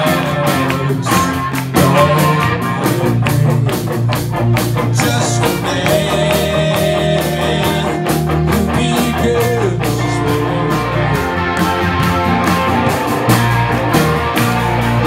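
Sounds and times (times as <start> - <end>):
drum kit beat: 0.0 - 15.0
electric guitars: 0.0 - 15.0.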